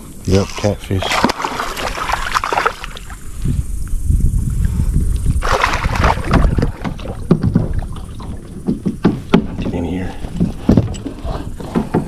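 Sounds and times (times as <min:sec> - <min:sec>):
water splashing against kayak: 0:00.0 - 0:12.0.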